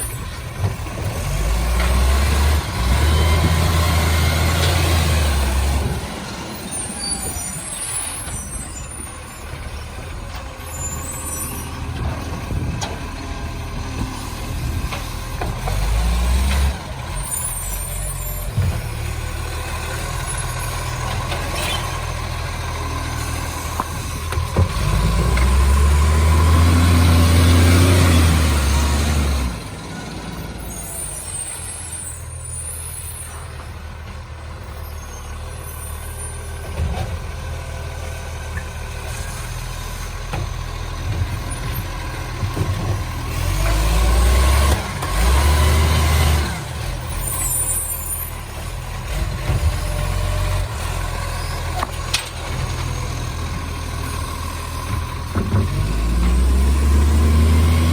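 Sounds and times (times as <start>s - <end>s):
garbage truck engine rumbling: 0.0s - 57.9s.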